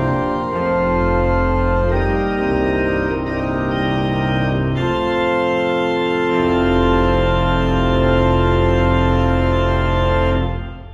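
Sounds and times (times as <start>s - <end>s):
church organ chords: 0.0s - 10.9s.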